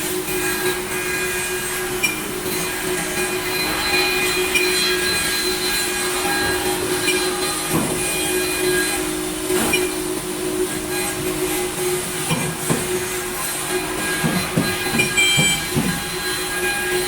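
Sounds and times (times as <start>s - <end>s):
machine cutting wood: 0.0s - 17.0s
spindles whining: 0.0s - 17.0s.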